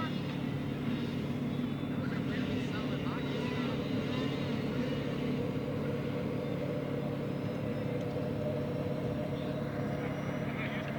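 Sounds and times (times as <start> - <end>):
outdoor background noise: 0.0 - 10.9
steady engine drone: 0.0 - 10.9.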